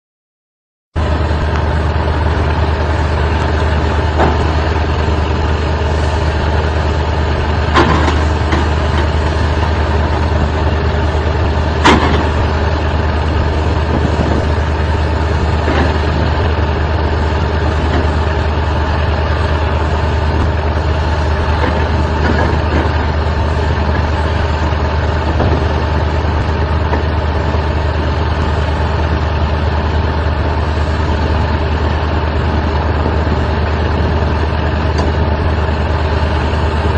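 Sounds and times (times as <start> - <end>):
excavator engine humming: 1.0 - 36.9.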